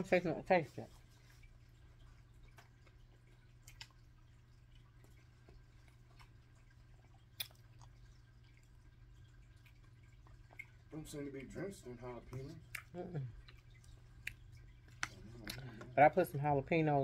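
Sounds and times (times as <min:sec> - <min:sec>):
quiet eating sounds: 0:00.0 - 0:17.0.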